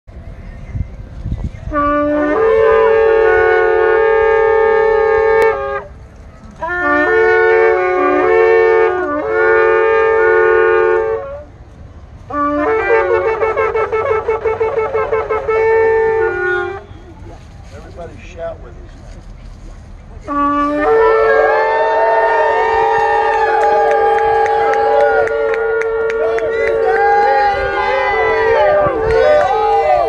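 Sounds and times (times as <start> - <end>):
ram's horns blowing: 1.6 - 11.6, 12.3 - 18.4, 20.2 - 30.0.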